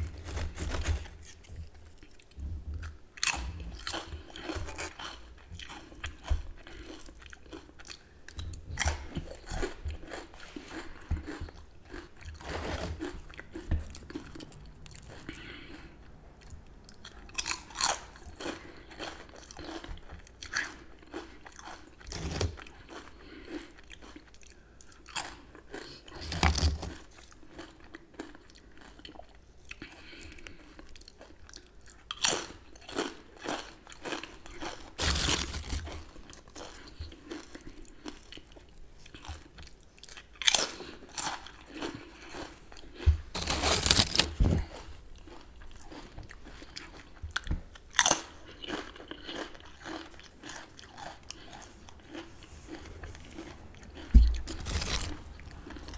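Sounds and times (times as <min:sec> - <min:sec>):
crunchy chips being chewed: 0:00.0 - 0:55.9.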